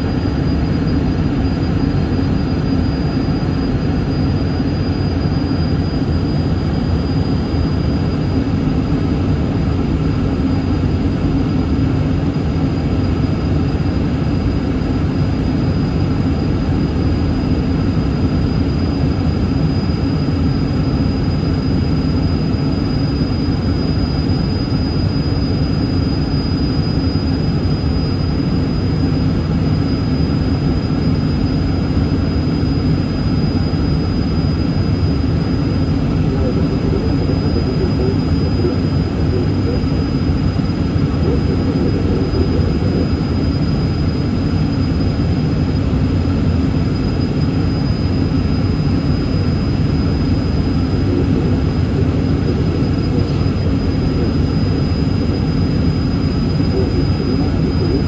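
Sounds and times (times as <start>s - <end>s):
jet engine cabin drone: 0.0s - 58.0s
thin high whine: 0.0s - 58.0s.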